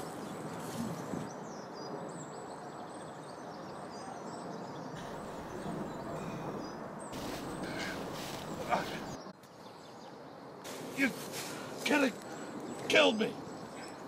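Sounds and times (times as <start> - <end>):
outdoor background noise: 0.0 - 14.0
small birds chirping: 0.0 - 14.0.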